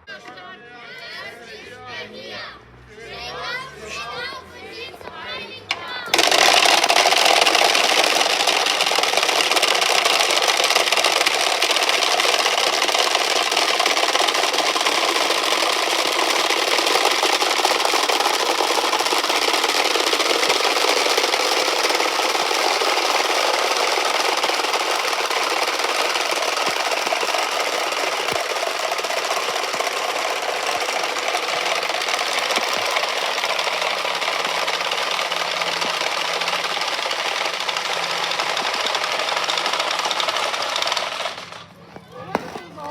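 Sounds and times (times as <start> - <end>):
wooden rattles clattering: 5.7 - 42.9.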